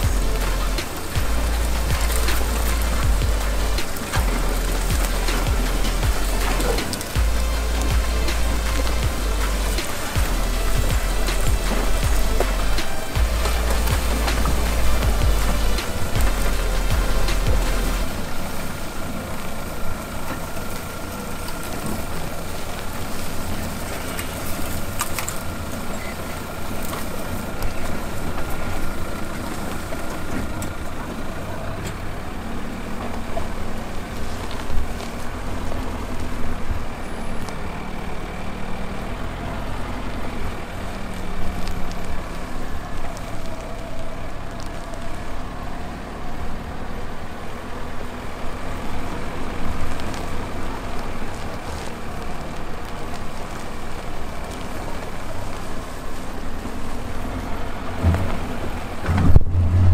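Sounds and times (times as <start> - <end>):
tyre and suspension rumble: 0.0 - 59.9
vehicle engine running low: 0.0 - 59.9.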